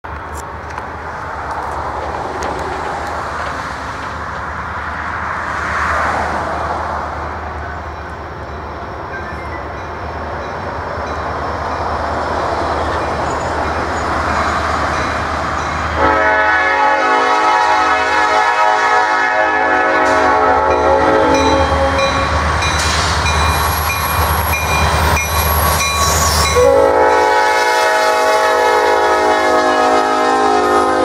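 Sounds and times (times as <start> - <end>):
diesel locomotives rumbling: 0.0 - 31.0
train running noise: 0.0 - 31.0.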